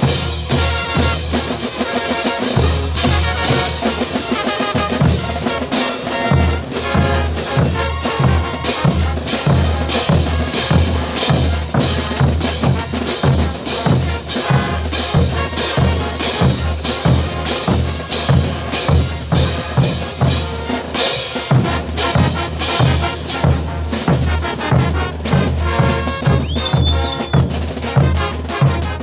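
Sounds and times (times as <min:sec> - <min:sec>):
held brass tones: 0:00.0 - 0:29.0
bass drum beat: 0:04.8 - 0:20.7, 0:21.5 - 0:29.0.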